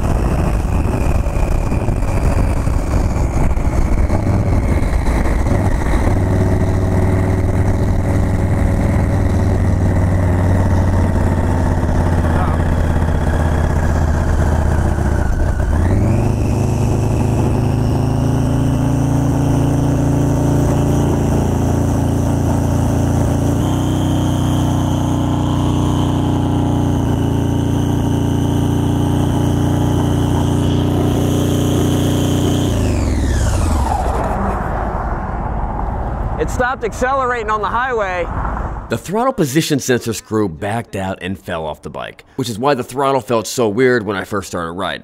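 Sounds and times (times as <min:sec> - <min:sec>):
motorcycle engine revving: 0:00.0 - 0:36.2
high whine: 0:00.0 - 0:39.0.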